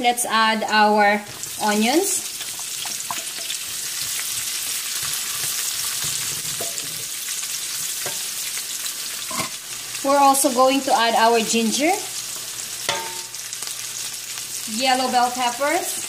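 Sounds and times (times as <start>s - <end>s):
onions sizzling in hot oil: 0.2s - 16.0s.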